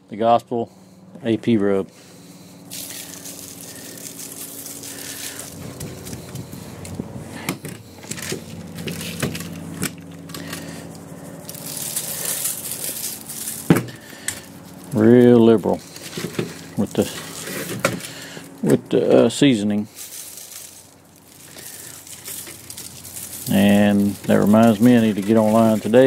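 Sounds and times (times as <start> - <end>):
steady low hum: 0.0 - 26.0
dry rub granules rattling from shaker: 2.2 - 6.8, 7.9 - 26.0.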